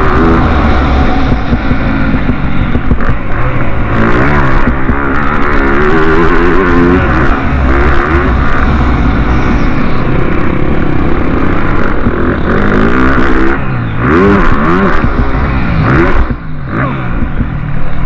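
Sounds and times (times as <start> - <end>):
low rumble: 0.0 - 18.0
motorcycle engines revving: 0.0 - 18.0.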